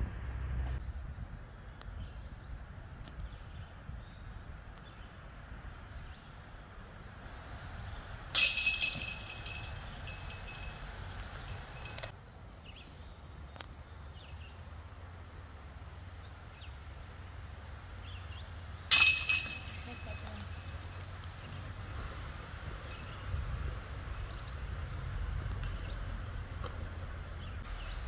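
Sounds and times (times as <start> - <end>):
quiet woodland ambience: 0.8 - 28.0.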